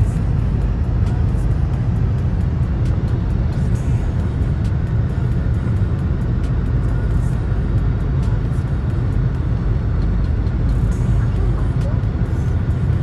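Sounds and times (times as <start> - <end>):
background music with ticking beat: 0.0 - 13.0
road and engine rumble in car: 0.0 - 13.0.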